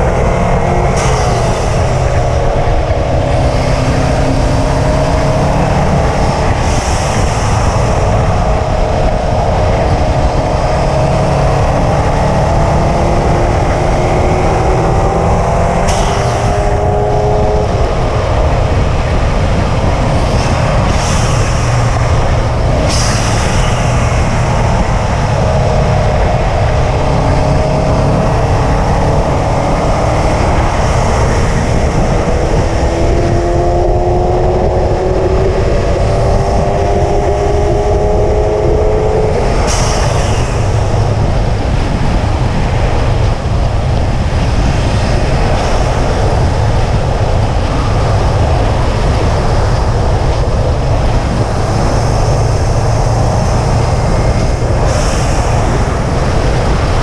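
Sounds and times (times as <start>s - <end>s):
car engine pulling: 0.0s - 57.0s
road and wind noise: 0.0s - 57.0s.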